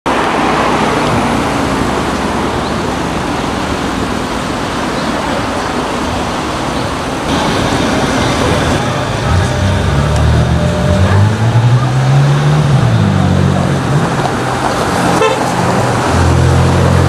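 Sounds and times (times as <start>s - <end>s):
street traffic noise: 0.0s - 17.0s
car engine and exhaust: 0.1s - 17.0s.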